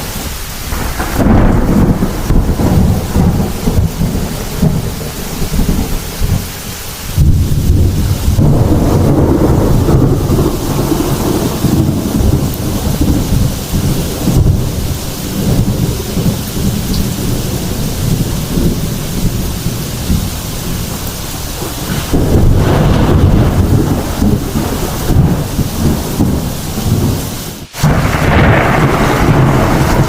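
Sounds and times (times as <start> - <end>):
heavy rain: 0.0 - 30.0
thunder rolling: 0.0 - 30.0.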